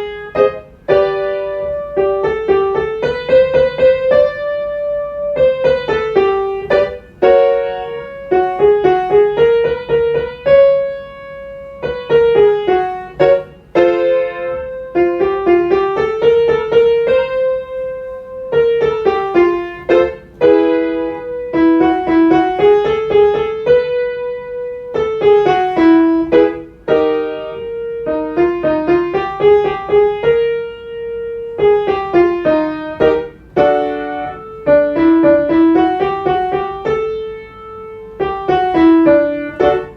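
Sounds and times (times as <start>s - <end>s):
piano playing scales: 0.0s - 39.9s.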